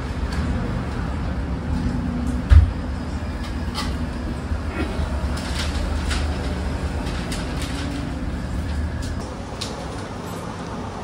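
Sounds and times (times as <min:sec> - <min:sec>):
low restaurant rumble: 0:00.0 - 0:11.0.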